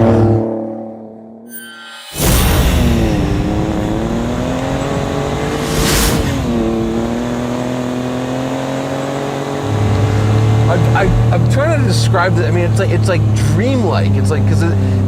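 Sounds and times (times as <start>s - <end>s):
truck engine revving: 2.2s - 15.0s.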